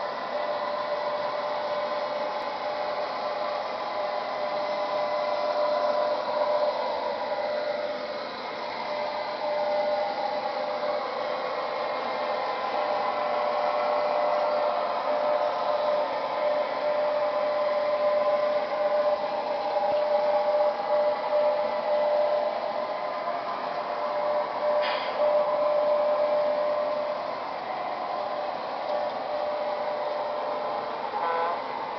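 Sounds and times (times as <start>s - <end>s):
model train motors whirring: 0.0s - 31.9s
model train whine: 0.0s - 31.9s.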